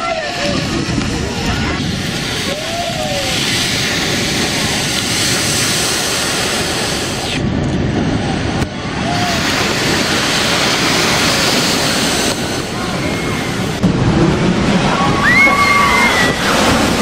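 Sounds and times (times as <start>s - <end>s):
storm waves crashing on seawall: 0.0s - 17.0s
wind buffeting microphone: 0.0s - 17.0s.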